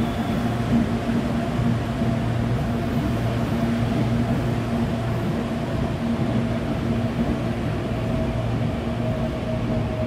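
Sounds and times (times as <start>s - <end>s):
electric train hum: 0.0s - 10.0s
wheels rumbling on rails: 0.0s - 10.0s.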